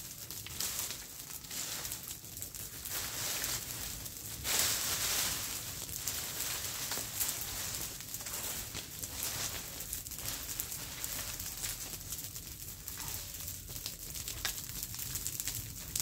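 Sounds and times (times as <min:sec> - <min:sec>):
brush fire crackling: 0:00.0 - 0:16.0
dry branches rustling and crunching: 0:00.0 - 0:16.0.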